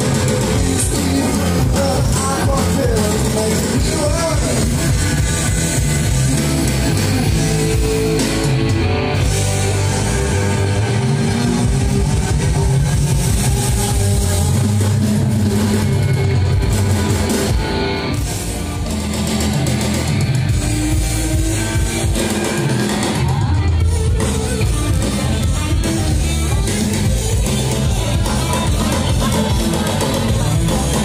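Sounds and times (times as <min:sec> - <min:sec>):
drum kit: 0:00.0 - 0:31.0
electric guitar: 0:00.0 - 0:31.0
loud rock music: 0:00.0 - 0:31.0.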